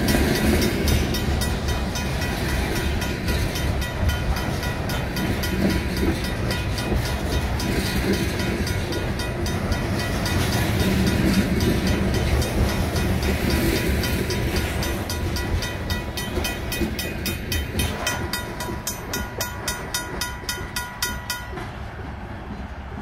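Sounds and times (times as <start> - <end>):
crossing bell ringing: 0.0 - 21.9
train wheels rumbling on rails: 0.0 - 23.0.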